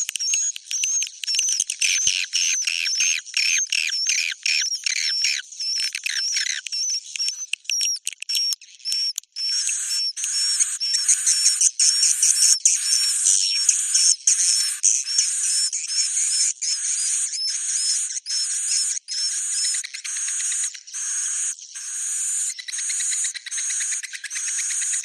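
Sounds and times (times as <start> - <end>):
high chirps and buzzy twitters: 0.2 - 25.0.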